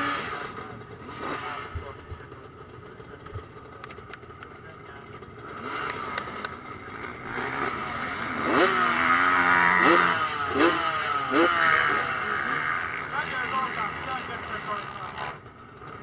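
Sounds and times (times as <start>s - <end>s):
motocross motorcycle engines revving: 0.0s - 16.0s.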